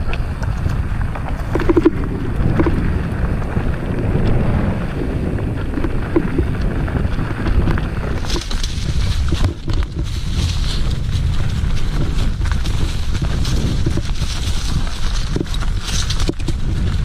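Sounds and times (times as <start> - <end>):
bike knocks and rattles: 0.0 - 17.0
bike rumbling on dirt trail: 0.0 - 17.0
wind buffeting microphone: 0.0 - 17.0.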